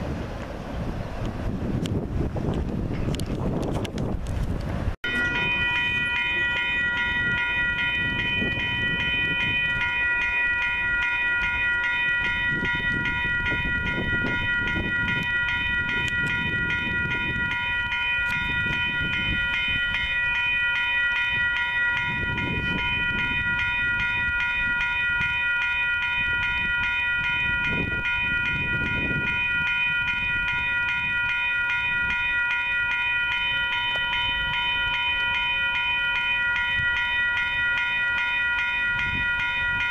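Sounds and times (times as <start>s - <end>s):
wind on microphone: 0.0s - 39.9s
crossing warning bell ringing: 5.0s - 39.9s.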